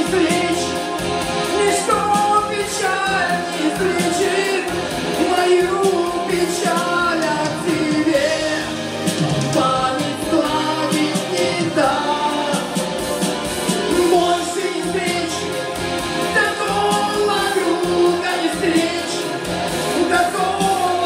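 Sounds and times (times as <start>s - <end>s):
man singing into a microphone: 0.0s - 0.9s, 1.5s - 12.9s, 13.9s - 15.6s, 16.3s - 21.0s
instrumental accompaniment: 0.0s - 21.0s.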